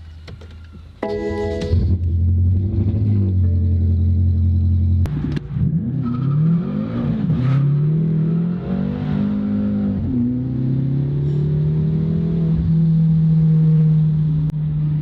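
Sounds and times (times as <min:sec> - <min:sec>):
car engine accelerating: 0:01.1 - 0:15.0.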